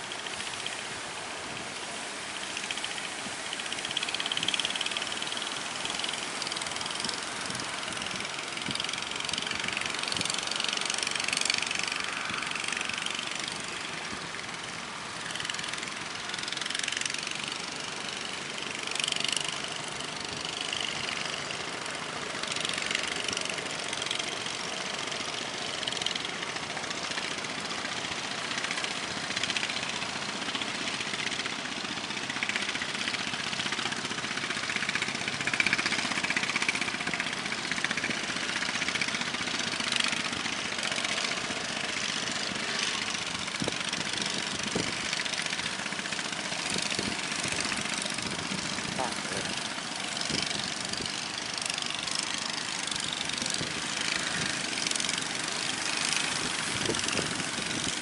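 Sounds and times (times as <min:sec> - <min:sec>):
boat engine running: 0:00.0 - 0:58.0
surging sea: 0:00.0 - 0:58.0.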